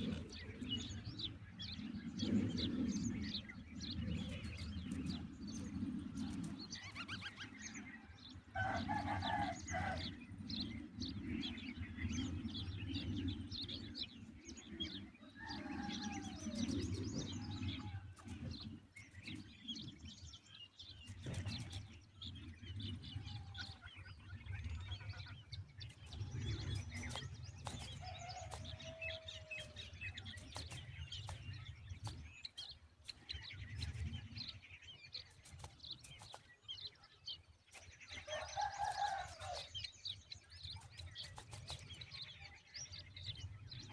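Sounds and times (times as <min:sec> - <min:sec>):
steady low rumble: 0:00.0 - 0:38.6
birds chirping: 0:00.0 - 0:43.9.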